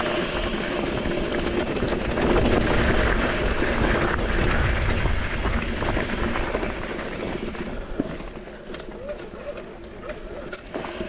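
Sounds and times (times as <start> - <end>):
tyres rolling over gravel: 0.0 - 11.0
bike frame rattling: 0.1 - 11.0.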